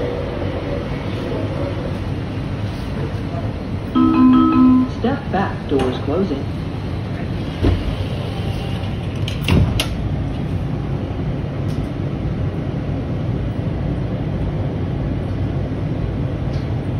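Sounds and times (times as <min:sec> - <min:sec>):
subway train rumble: 0:00.0 - 0:16.9.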